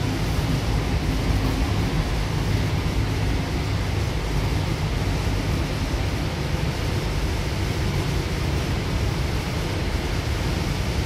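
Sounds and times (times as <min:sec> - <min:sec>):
train cabin rumble and hiss: 0:00.0 - 0:11.0.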